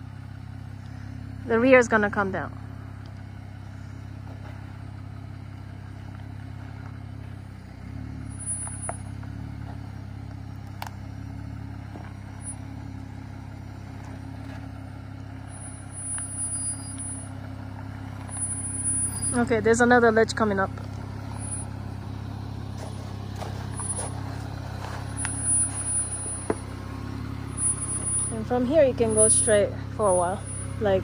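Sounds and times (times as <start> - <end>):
car engine running low: 0.0 - 31.0.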